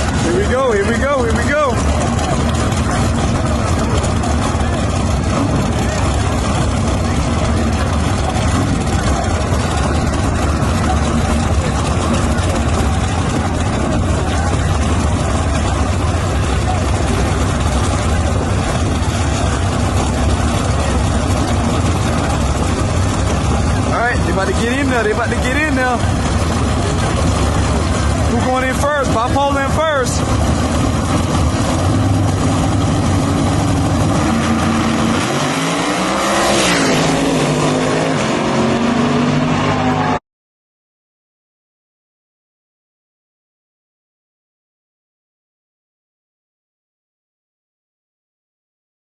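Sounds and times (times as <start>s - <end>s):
crowd voices: 0.0s - 40.2s
race engines idling: 0.0s - 40.2s.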